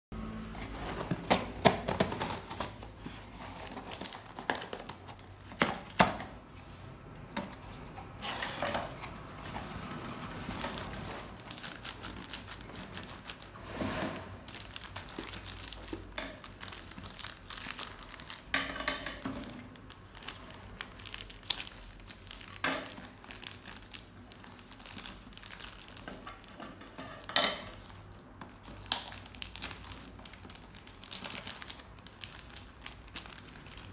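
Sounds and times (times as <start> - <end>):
plastic wrapping crinkling: 0.8 - 6.8, 7.5 - 13.8, 14.4 - 33.9.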